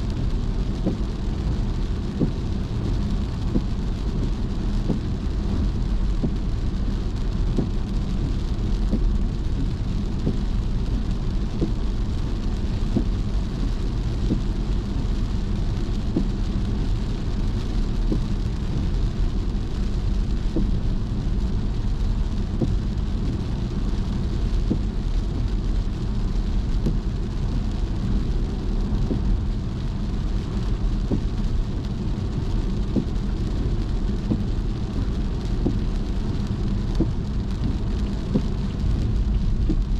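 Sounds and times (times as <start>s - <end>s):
car rumbling on wet road: 0.0s - 39.9s
raindrops tapping on car: 0.0s - 39.9s.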